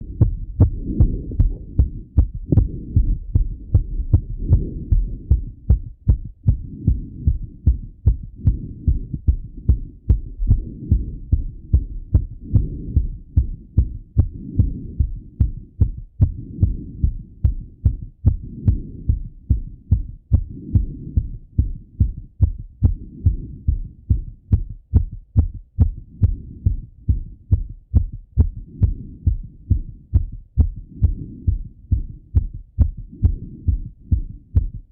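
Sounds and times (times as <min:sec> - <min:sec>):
heartbeat through stethoscope: 0:00.0 - 0:34.9.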